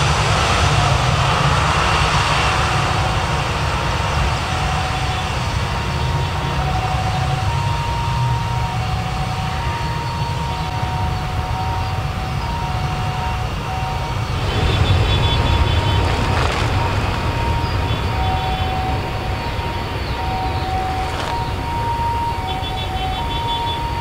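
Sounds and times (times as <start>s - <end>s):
jet engines at takeoff: 0.0s - 24.0s.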